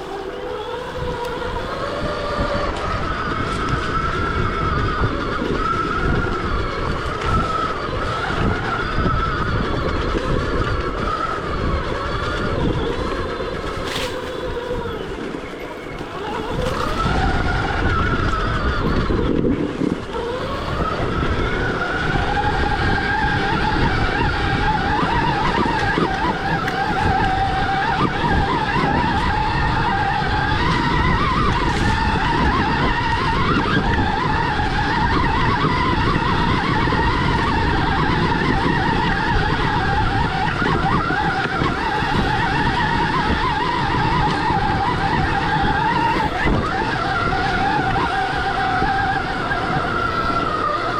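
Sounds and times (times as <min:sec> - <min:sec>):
electric dirt bike motor whining: 0:00.0 - 0:50.9
rough low rumbling noise: 0:00.0 - 0:50.9.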